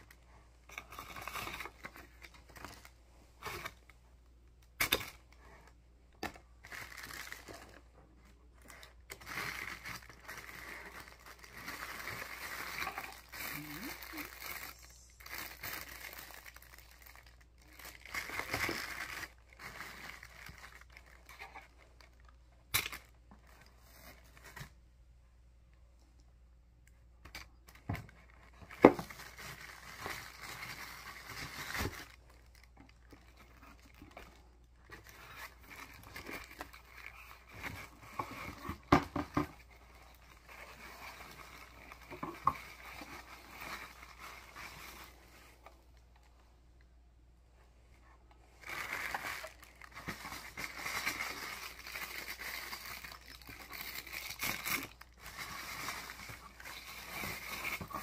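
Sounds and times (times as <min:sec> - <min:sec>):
plastic packaging crinkling: 0:06.2 - 0:24.8, 0:27.2 - 0:46.2, 0:48.4 - 0:58.0.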